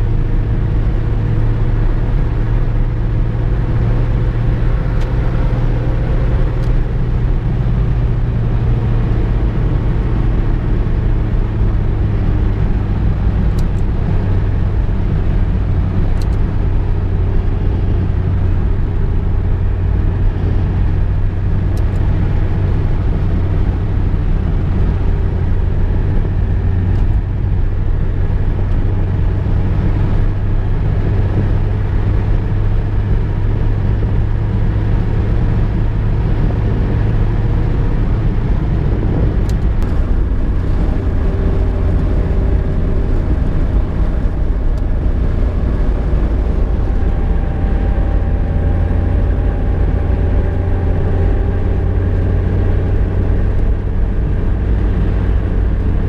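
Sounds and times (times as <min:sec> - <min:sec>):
car engine drone: 0:00.0 - 0:56.0
road rumble: 0:00.0 - 0:56.0.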